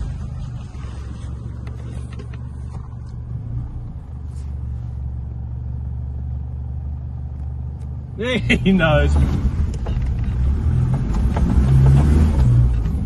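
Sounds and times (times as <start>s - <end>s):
vehicle engine and tyres droning: 0.0s - 13.0s.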